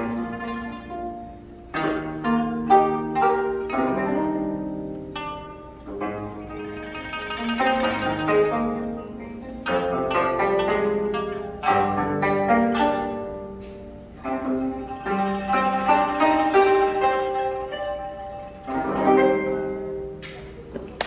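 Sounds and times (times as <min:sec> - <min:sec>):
plucked string instruments melody: 0:00.0 - 0:21.0.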